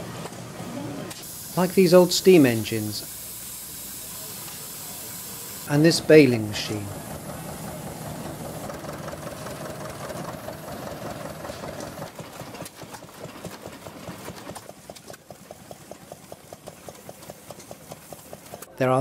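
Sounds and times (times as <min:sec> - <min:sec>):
baling machine running: 0:01.2 - 0:18.7.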